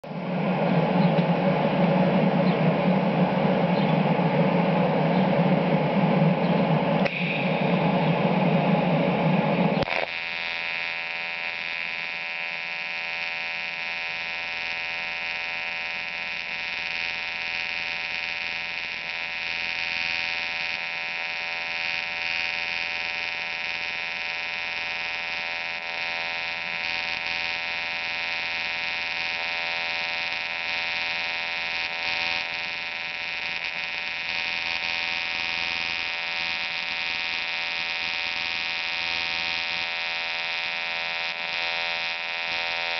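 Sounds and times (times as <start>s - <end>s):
welding arc buzzing: 7.0s - 42.9s.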